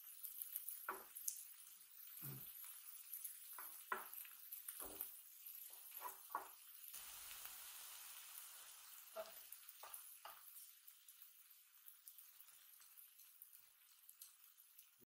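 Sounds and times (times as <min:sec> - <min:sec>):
pancakes sizzling on hot plate: 0:00.0 - 0:15.0.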